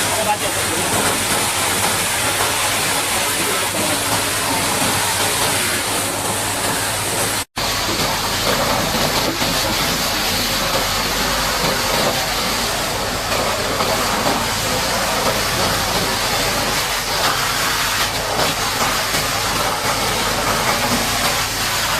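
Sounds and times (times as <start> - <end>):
water jet spraying: 0.0 - 21.9.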